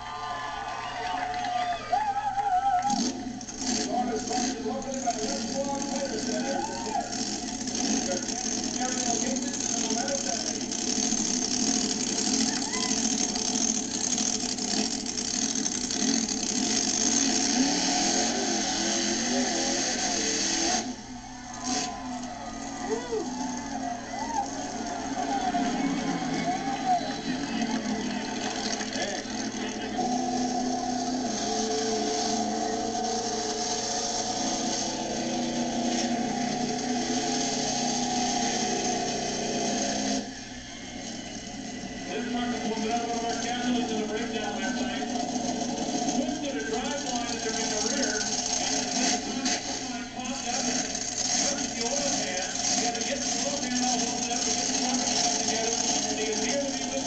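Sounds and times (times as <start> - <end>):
truck engine at full throttle: 2.4 - 57.0.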